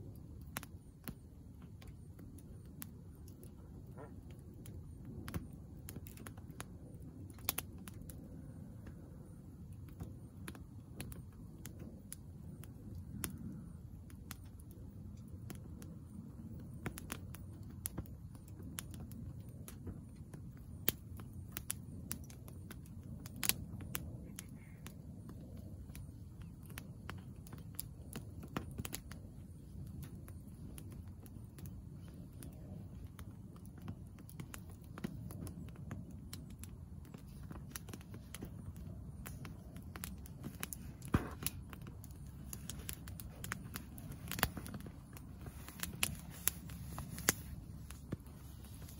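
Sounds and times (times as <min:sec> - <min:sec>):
steady low rumble: 0:00.0 - 0:48.9.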